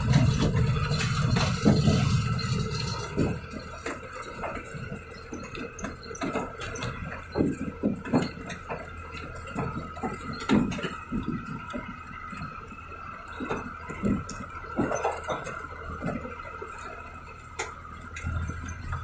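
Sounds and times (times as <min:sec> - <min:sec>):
cab knocks and rattles: 0:00.0 - 0:19.0
truck engine low hum: 0:00.0 - 0:19.0.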